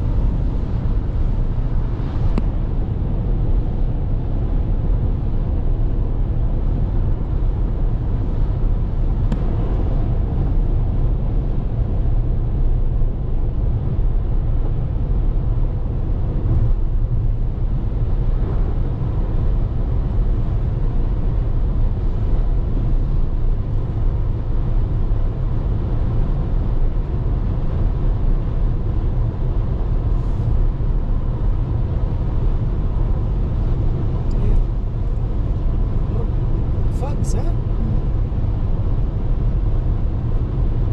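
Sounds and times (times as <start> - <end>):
car driving at highway speed: 0.0 - 40.9.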